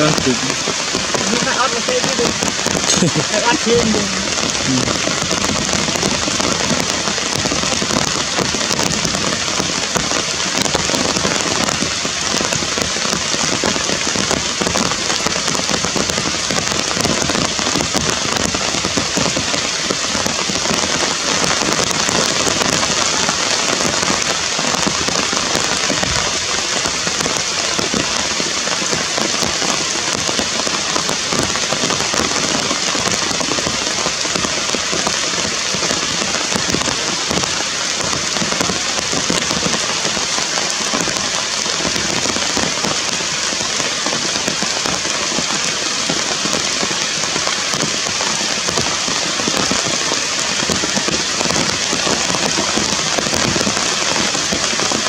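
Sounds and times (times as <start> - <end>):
rain hissing on foliage: 0.0 - 55.0
raindrop hits: 0.0 - 55.0.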